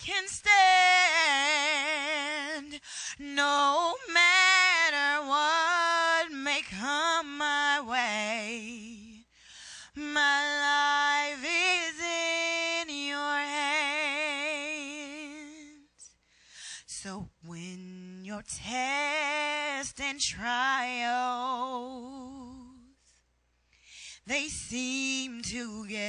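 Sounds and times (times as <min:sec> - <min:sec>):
woman singing gospel solo: 0:00.0 - 0:16.0, 0:16.8 - 0:23.0, 0:24.1 - 0:26.0.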